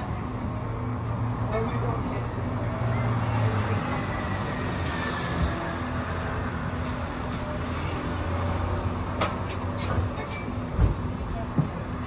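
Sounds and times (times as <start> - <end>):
bus drivetrain drone: 0.0 - 12.0
road noise: 0.0 - 12.0.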